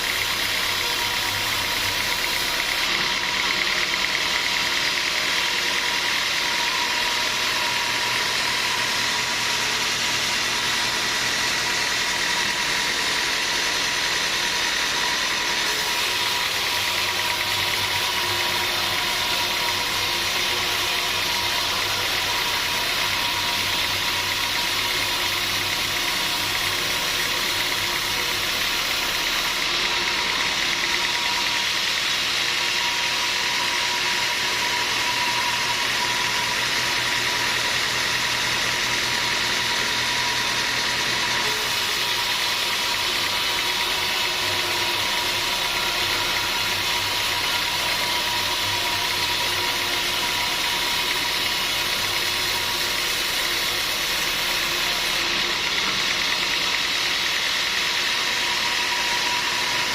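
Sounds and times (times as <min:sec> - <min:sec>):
sawmill machinery hiss and whine: 0:00.0 - 0:59.9.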